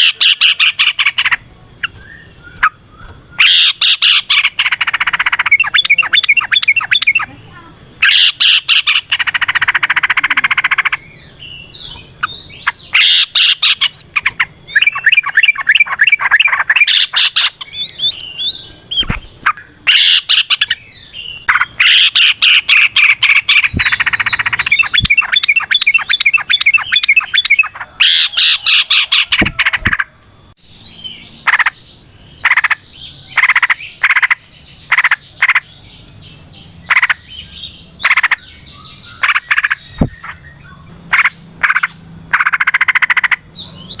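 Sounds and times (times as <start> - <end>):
bulbul chattering song: 0.0 - 44.0.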